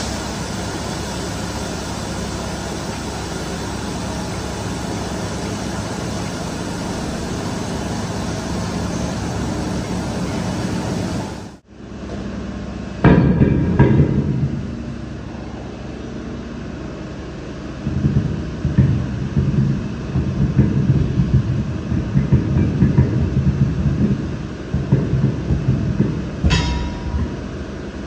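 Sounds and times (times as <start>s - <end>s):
workshop noise: 0.0s - 12.3s, 17.8s - 28.0s
low mechanical hum: 0.0s - 28.0s.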